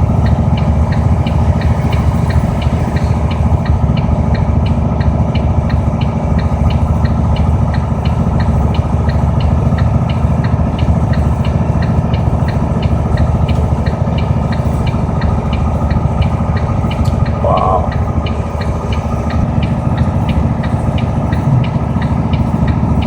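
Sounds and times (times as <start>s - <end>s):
engine and road rumble in cabin: 0.0s - 23.0s
small even ticking: 0.0s - 23.0s.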